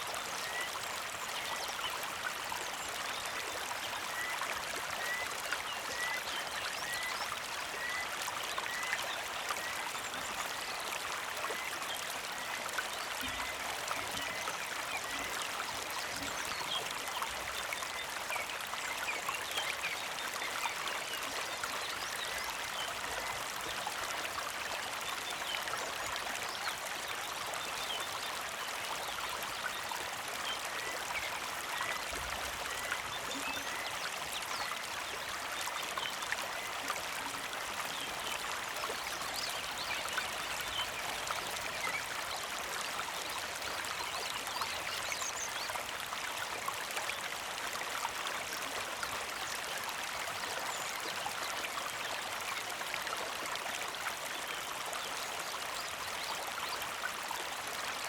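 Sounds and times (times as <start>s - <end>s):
creek babbling over stones: 0.0s - 58.0s.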